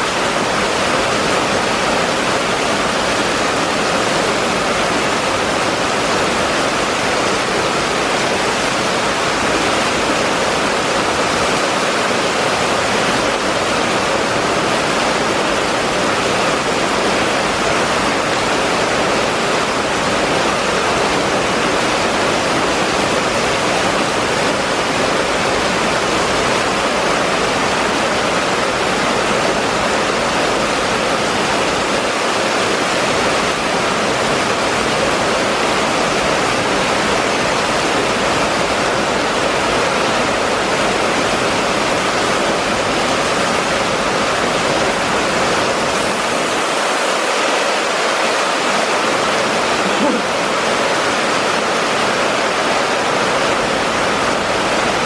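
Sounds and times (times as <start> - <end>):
heavy rain on wet street: 0.0 - 55.0.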